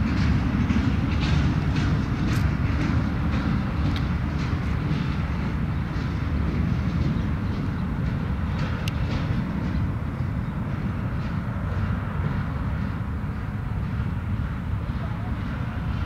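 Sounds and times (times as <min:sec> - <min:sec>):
high clicks from wheels: 0:00.0 - 0:16.0
train wheels rumbling on track: 0:00.0 - 0:16.0.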